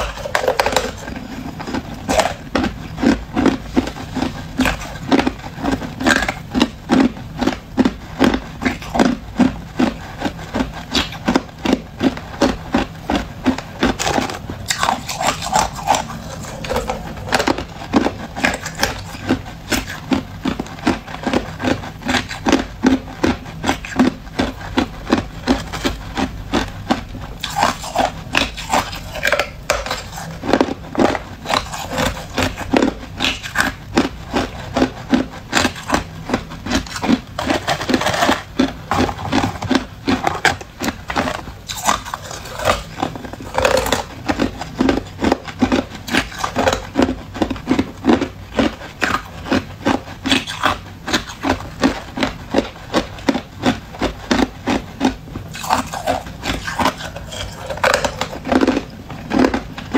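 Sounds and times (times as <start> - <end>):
ice being chewed and crunched: 0.0 - 59.9.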